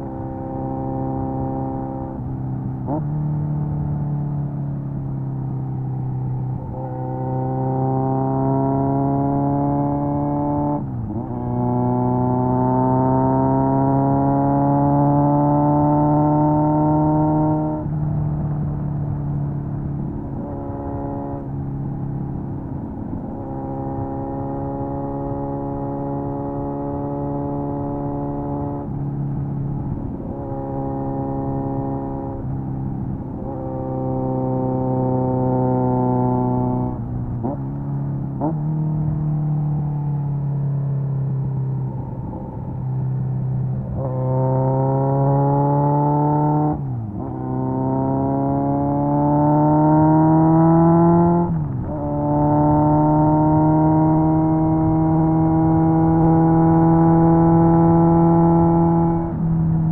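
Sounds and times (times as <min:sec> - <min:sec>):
motorcycle engine riding steadily: 0:00.0 - 0:59.9.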